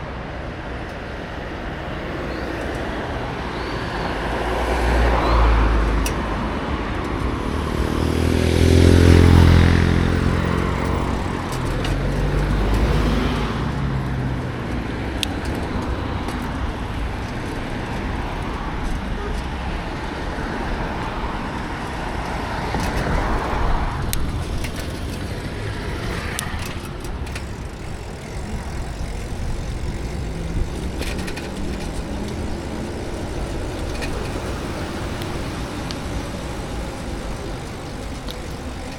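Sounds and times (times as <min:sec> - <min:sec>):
road noise hiss: 0:00.0 - 0:38.9
vehicles passing: 0:00.0 - 0:38.9.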